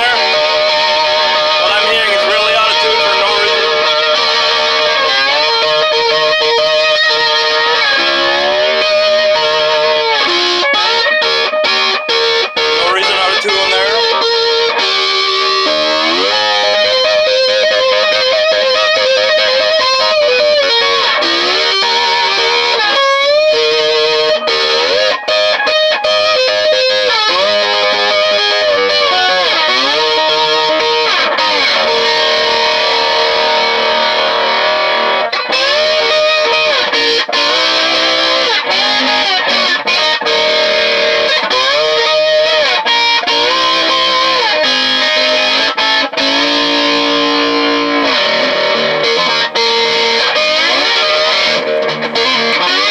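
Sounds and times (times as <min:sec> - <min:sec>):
slide electric guitar: 0:00.0 - 0:52.9.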